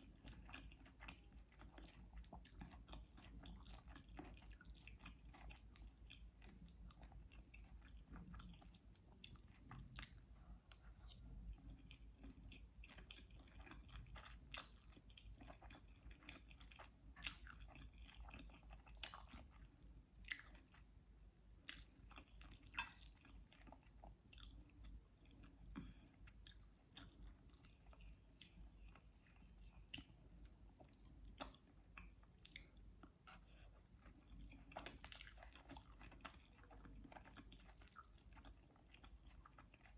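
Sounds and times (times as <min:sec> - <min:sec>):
person chewing food: 0:00.0 - 0:21.0, 0:21.6 - 0:39.9.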